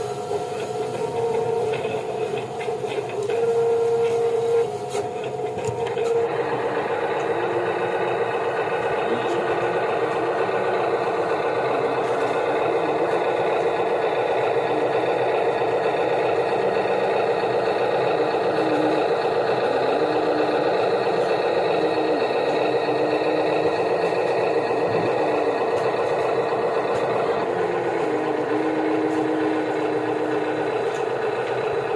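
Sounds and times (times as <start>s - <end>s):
small electric motors whining: 0.0s - 31.9s.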